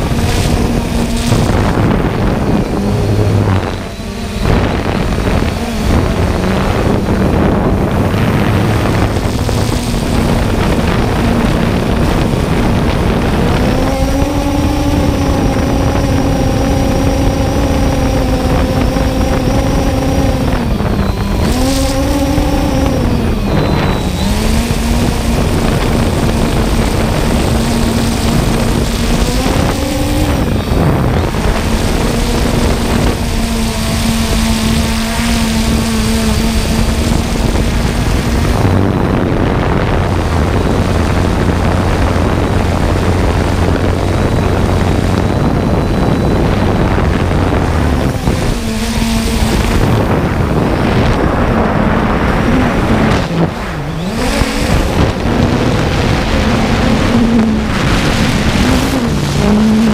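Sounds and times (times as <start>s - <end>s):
drone propellers humming: 0.0s - 59.9s
rushing wind noise: 0.0s - 59.9s.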